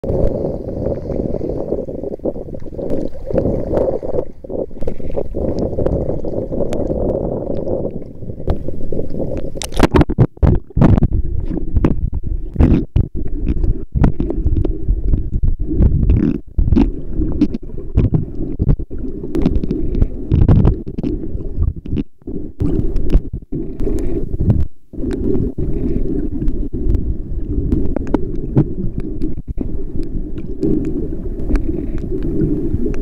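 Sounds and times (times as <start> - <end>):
seawater sloshing and rushing: 0.0 - 33.0
water splashes: 0.0 - 33.0.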